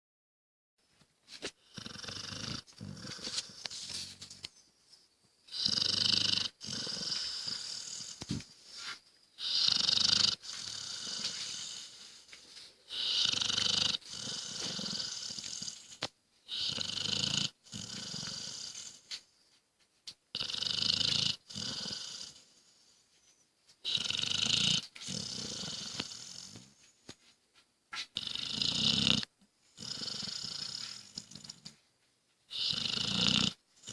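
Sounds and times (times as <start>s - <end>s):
dog snoring: 1.6s - 4.5s, 5.5s - 19.2s, 20.4s - 22.9s, 23.8s - 26.9s, 28.1s - 31.8s, 32.5s - 33.9s.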